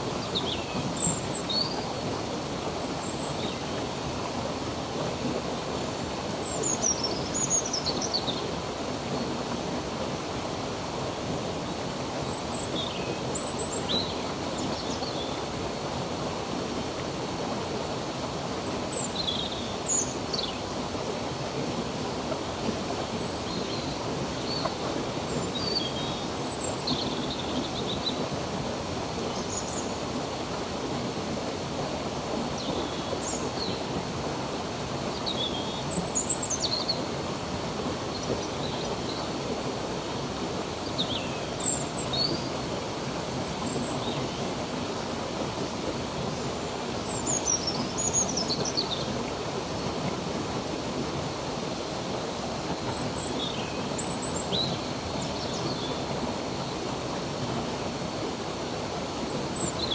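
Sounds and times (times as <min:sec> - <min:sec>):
stream running: 0:00.0 - 0:59.9.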